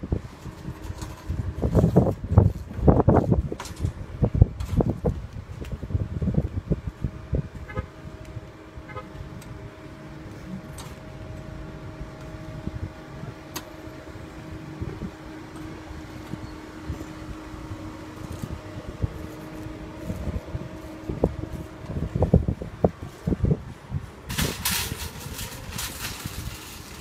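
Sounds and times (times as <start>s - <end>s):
low rumble and bumps: 0.0s - 27.0s.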